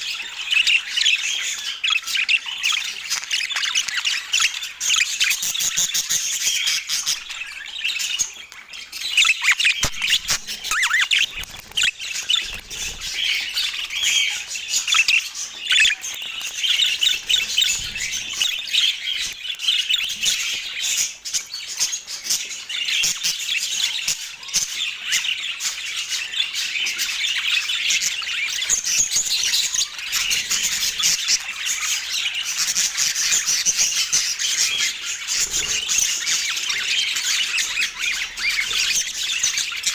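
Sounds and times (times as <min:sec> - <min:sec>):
budgerigar chatter: 0:00.0 - 0:39.9.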